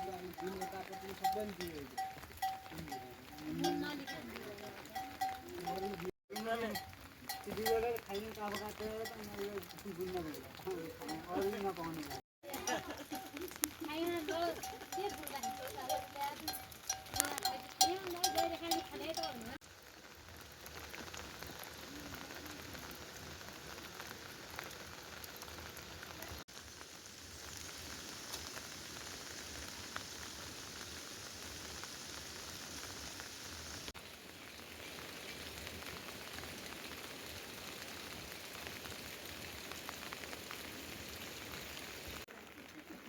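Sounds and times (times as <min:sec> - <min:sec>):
rain patter and hiss: 0:00.0 - 0:43.0.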